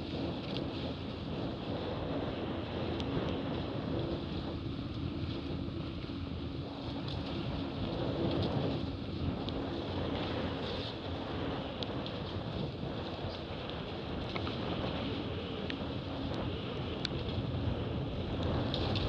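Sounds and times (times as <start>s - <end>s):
steady low hum: 0.0s - 19.0s
wind noise on microphone: 0.0s - 19.0s.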